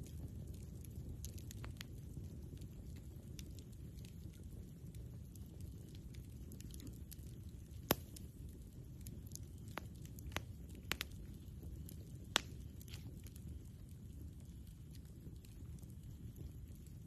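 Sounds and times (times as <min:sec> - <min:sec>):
campfire crackling: 0:00.0 - 0:17.0
fire popping: 0:00.0 - 0:17.0
low rush of burning: 0:00.0 - 0:17.0.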